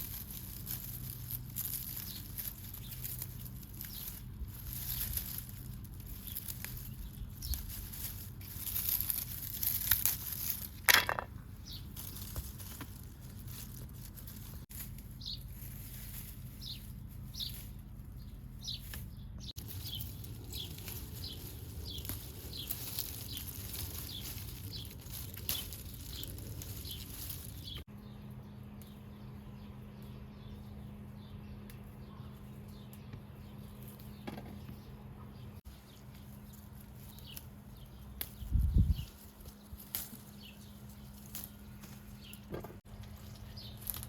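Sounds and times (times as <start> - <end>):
birds chirping: 0.0 - 44.0
faint background hum: 0.0 - 44.0.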